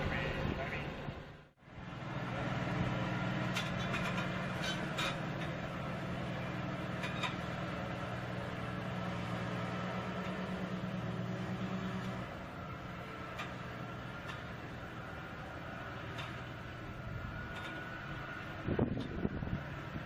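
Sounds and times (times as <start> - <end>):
heavy machine engine running: 0.0 - 20.0.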